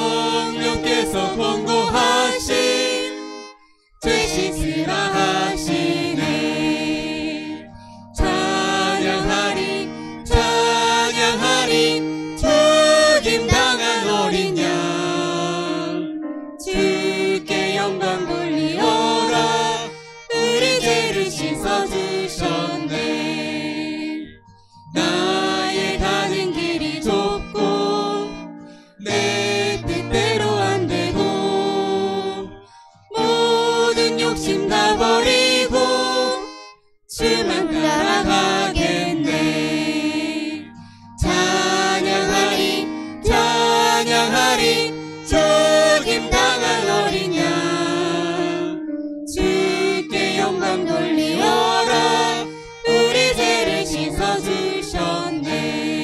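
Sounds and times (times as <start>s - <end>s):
choir singing a hymn: 0.0s - 56.0s
keyboard: 0.0s - 56.0s
violin: 0.0s - 56.0s.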